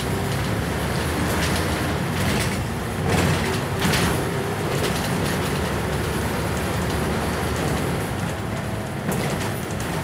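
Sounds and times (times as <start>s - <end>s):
bus engine: 0.0s - 10.0s
road noise: 0.0s - 10.0s
bus body clattering: 1.1s - 10.0s.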